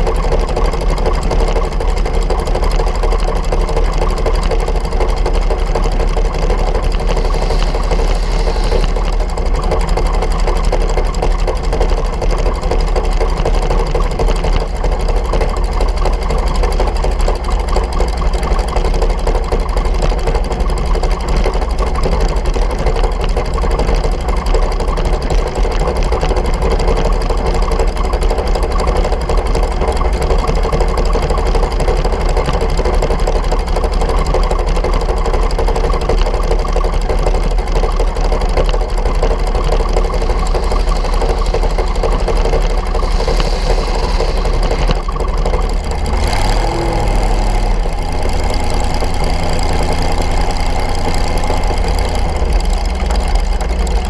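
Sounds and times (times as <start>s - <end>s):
dragster engine idling: 0.0s - 54.0s.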